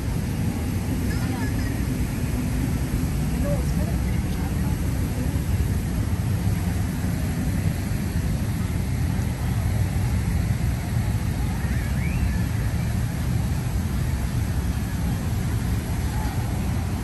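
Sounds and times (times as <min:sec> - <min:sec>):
low rumble of city street: 0:00.0 - 0:17.0.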